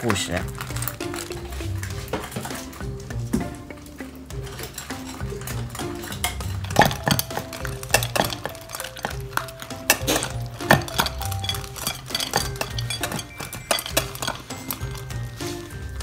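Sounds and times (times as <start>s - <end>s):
background music with held notes: 0.0s - 16.0s
dogs crunching kibble: 0.0s - 16.0s
kibble clinking on metal bowls: 0.0s - 16.0s.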